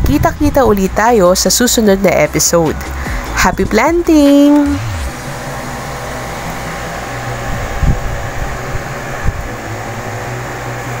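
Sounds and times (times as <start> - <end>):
steady whirring with low hum: 0.0 - 11.0.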